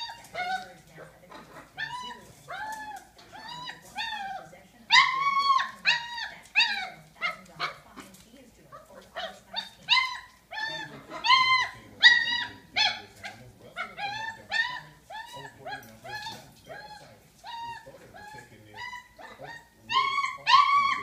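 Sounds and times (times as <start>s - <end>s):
puppy whining: 0.0s - 21.0s.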